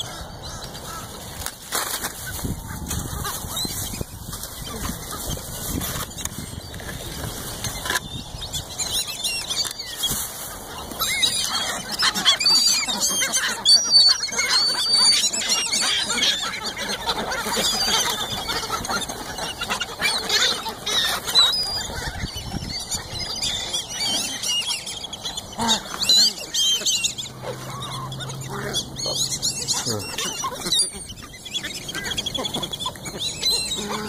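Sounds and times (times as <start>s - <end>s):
birds whistling and squealing: 0.0s - 34.0s.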